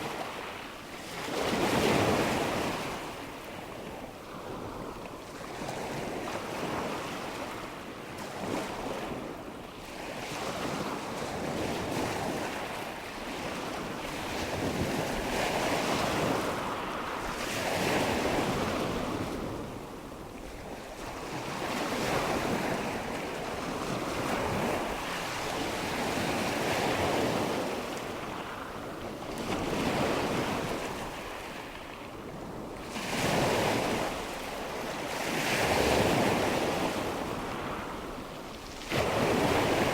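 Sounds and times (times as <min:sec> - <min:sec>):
wind: 0:00.0 - 0:39.9.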